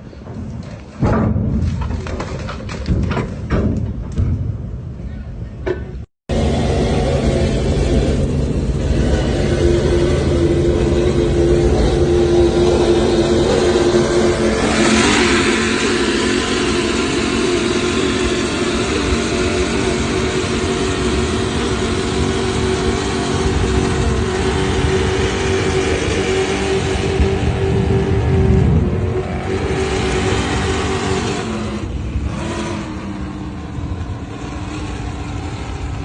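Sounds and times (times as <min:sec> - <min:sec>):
motorboat engine running: 0:06.3 - 0:36.0.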